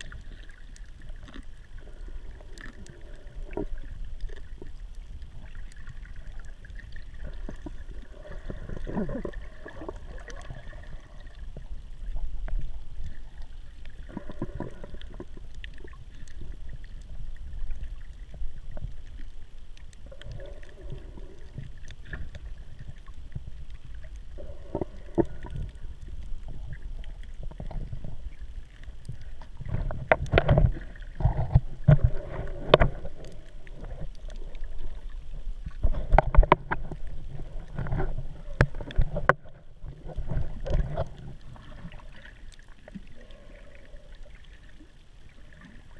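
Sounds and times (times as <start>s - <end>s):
muffled underwater water sloshing: 0.0s - 45.9s.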